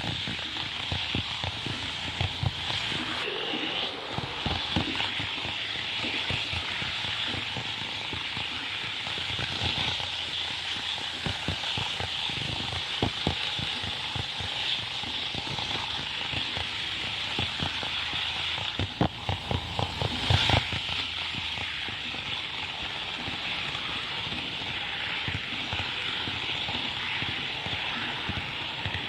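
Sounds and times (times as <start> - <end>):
model train wheels clicking: 0.0 - 29.0
steady hiss: 0.0 - 29.0.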